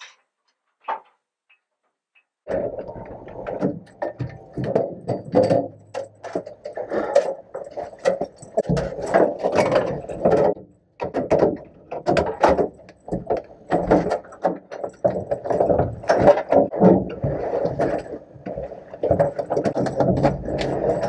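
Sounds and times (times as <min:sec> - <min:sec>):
clicks and knocks in metal cabin: 0:02.5 - 0:18.1, 0:19.0 - 0:21.0.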